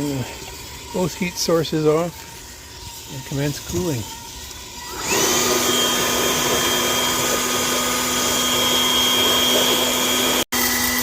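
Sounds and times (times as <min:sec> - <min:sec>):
cooling blower rushing air: 0:00.0 - 0:11.0.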